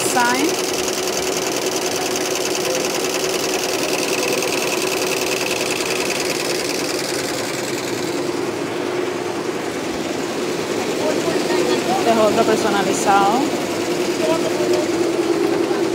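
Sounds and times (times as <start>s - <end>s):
embroidery machines stitching: 0.0s - 8.6s, 9.9s - 15.9s
machine hum: 0.0s - 15.9s.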